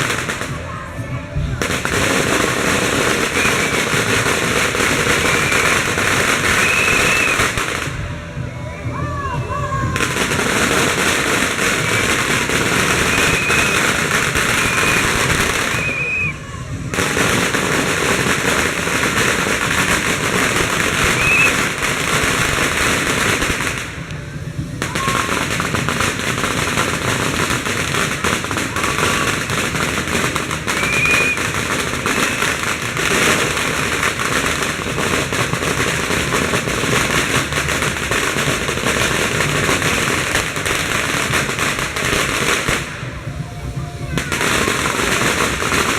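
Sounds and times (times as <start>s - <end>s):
firecrackers crackling: 0.0s - 45.9s.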